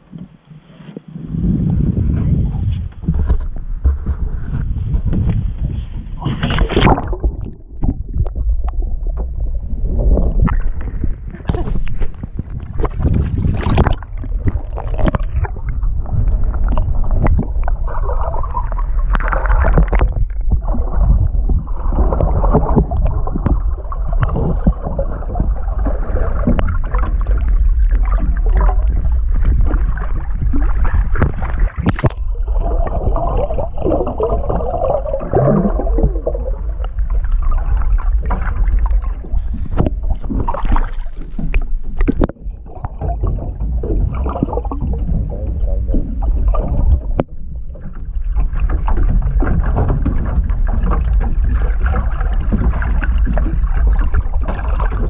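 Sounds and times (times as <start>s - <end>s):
underwater sloshing and gurgling: 0.0s - 55.0s
low rumble: 0.7s - 55.0s.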